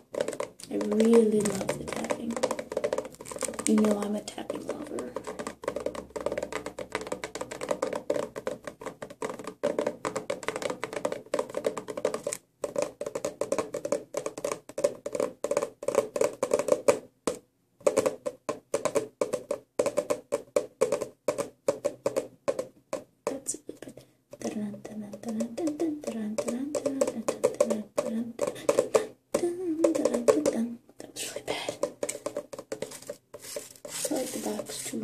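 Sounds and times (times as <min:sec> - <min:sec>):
fingers tapping on cardboard box: 0:00.0 - 0:23.5, 0:24.3 - 0:34.9.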